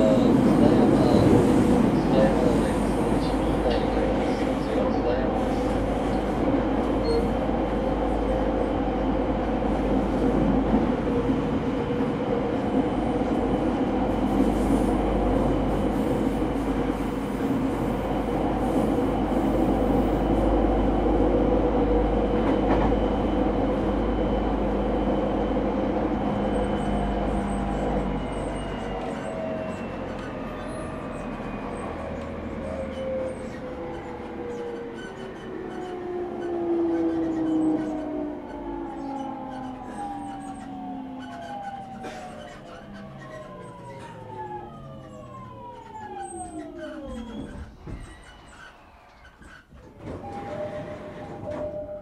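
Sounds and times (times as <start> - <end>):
train wheels rolling on rail: 0.0 - 52.0.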